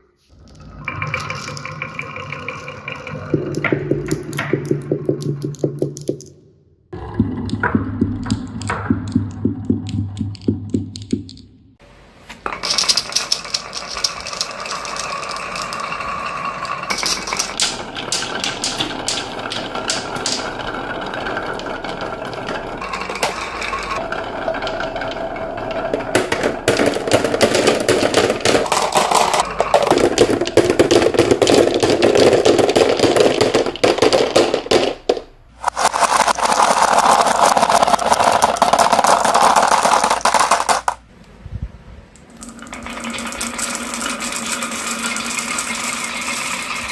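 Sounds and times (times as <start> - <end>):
marbles rattling down a marble run: 0.9 - 6.3, 12.4 - 41.0, 42.4 - 46.9.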